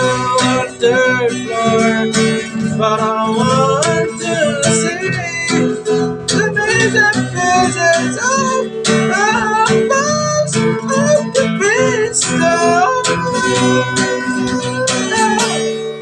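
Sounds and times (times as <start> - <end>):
person singing: 0.0 - 16.0
strummed acoustic guitar: 0.0 - 16.0.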